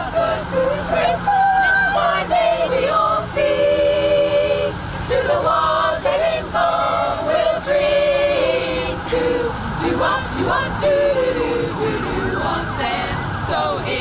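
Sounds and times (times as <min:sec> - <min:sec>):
women singing in harmony: 0:00.0 - 0:14.0.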